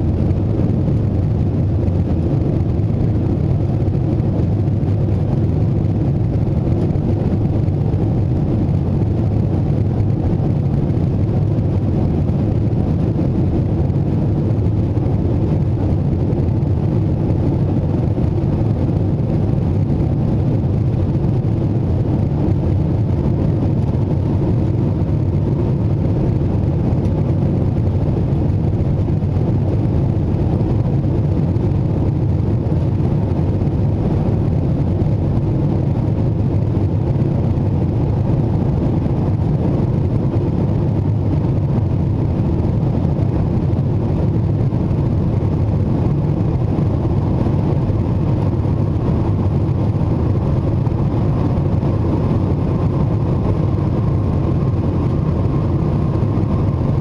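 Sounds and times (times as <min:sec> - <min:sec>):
airplane cabin engine drone: 0:00.0 - 0:57.0.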